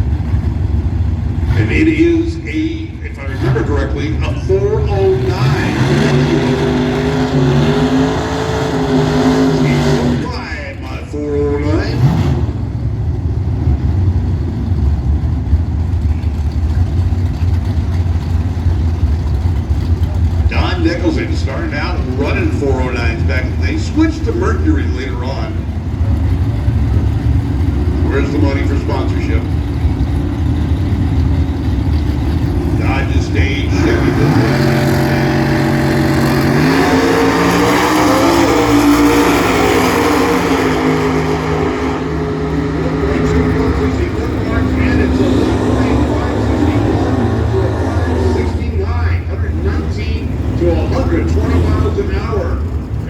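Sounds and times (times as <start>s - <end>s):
race car engines idling: 0.0s - 53.0s.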